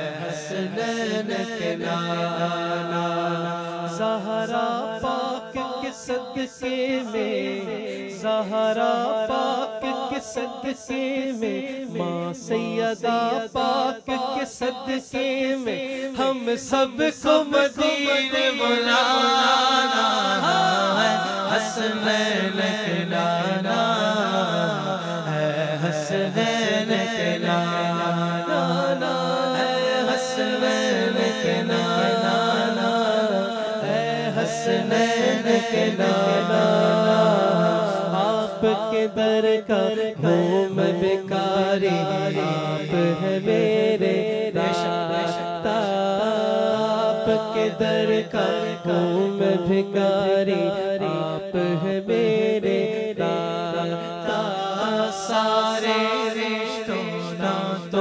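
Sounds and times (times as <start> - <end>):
voices singing devotional chant: 0.0 - 58.0.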